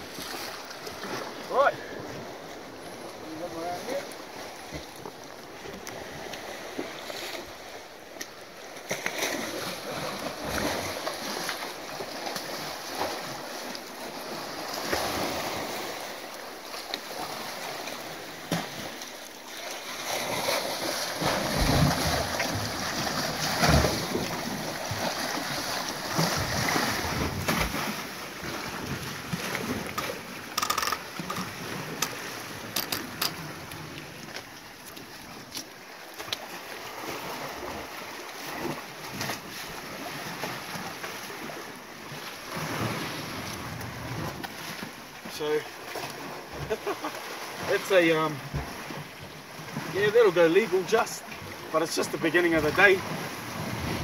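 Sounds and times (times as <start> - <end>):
surf washing against rocks: 0.0 - 54.0.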